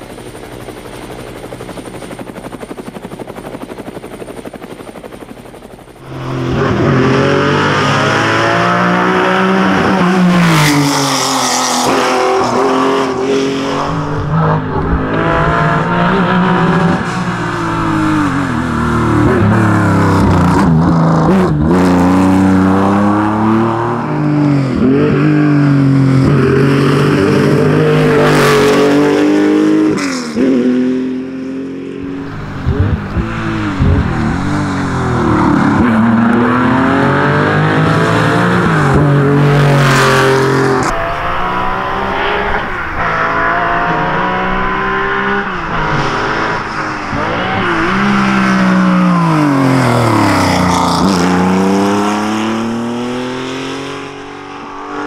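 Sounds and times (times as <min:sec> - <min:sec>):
race car engine at full throttle: 0:05.8 - 0:55.0.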